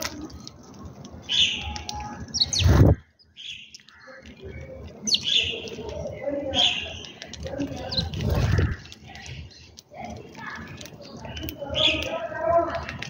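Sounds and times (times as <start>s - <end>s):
sparrows chirping: 1.2s - 12.8s.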